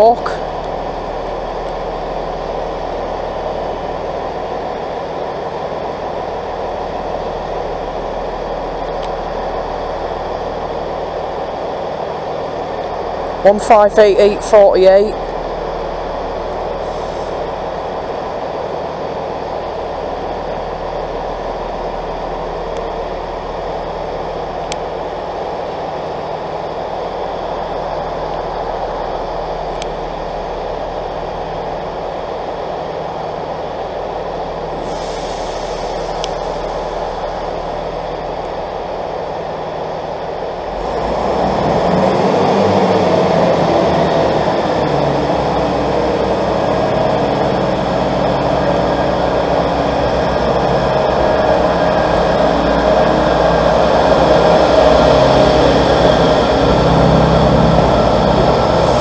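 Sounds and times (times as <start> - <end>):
diesel engine revving: 0.0 - 59.0
diesel engines idling: 0.0 - 59.0.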